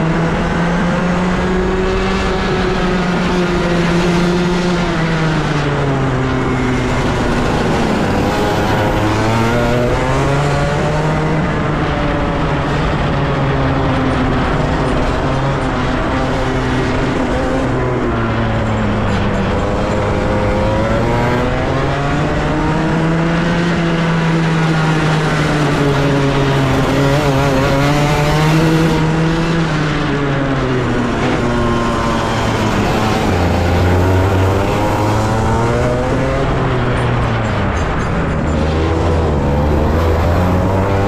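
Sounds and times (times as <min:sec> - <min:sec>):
racing kart engine under load: 0:00.0 - 0:41.0.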